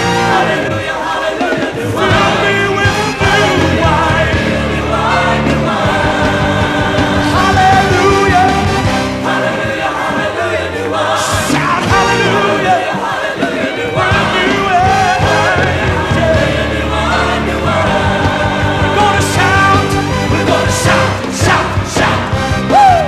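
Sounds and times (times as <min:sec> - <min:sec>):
band accompaniment: 0:00.0 - 0:23.0
gospel choir singing: 0:00.0 - 0:23.0.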